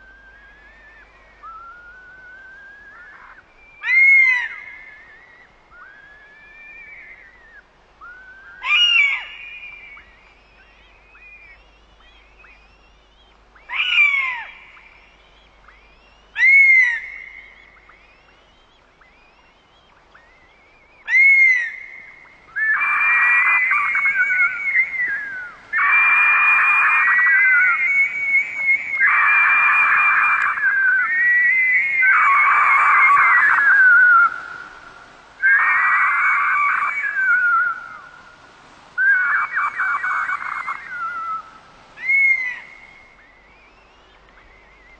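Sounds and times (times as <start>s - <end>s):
birds of prey calling: 0.0s - 44.9s.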